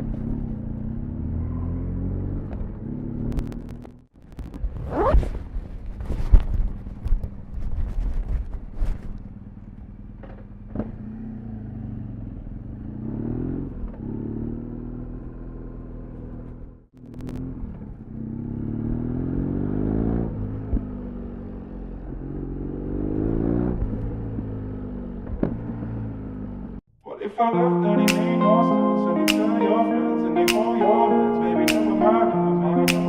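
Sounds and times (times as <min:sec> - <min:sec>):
motorcycle engine accelerating: 0:00.0 - 0:26.8.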